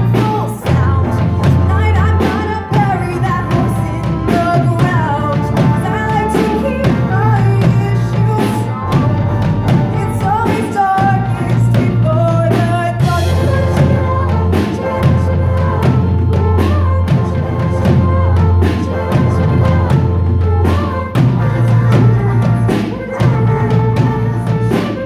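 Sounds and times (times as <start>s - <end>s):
drum kit beat: 0.0s - 25.0s
live rock band: 0.0s - 25.0s
violins: 0.0s - 25.0s
woman singing: 0.0s - 25.0s.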